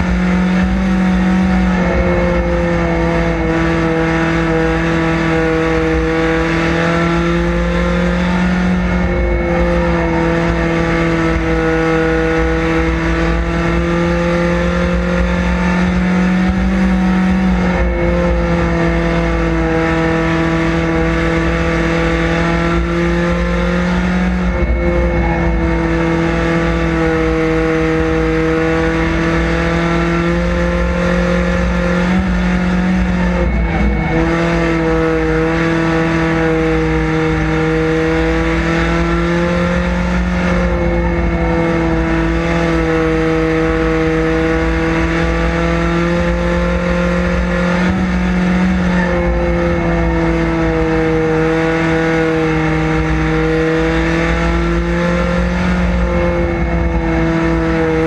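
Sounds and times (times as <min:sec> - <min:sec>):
race car engine drone: 0:00.0 - 0:58.0.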